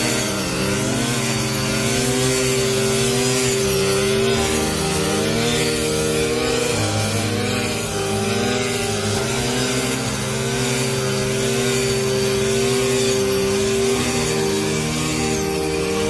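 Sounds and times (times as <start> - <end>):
harvesting machine engine running: 0.1 - 16.0.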